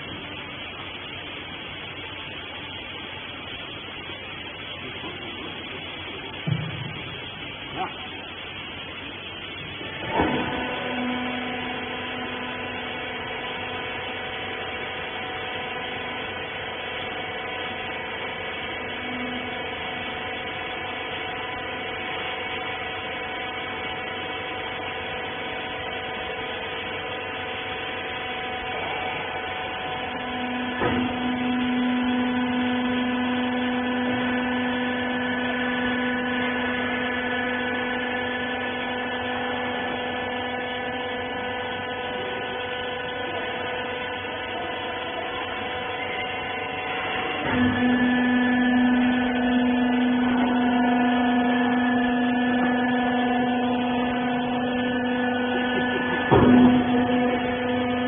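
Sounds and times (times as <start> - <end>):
hydraulic motor and pump hum: 0.0 - 58.0.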